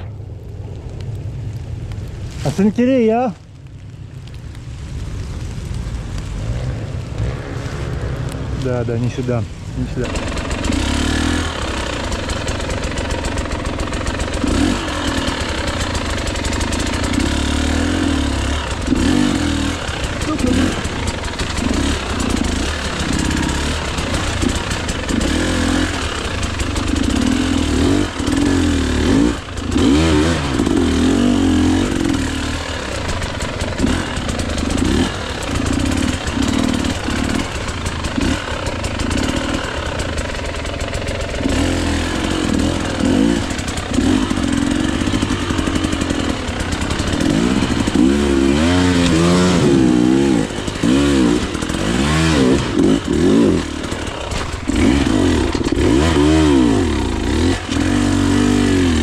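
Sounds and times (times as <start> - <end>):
two-stroke motorcycle engine revving: 6.2 - 59.0.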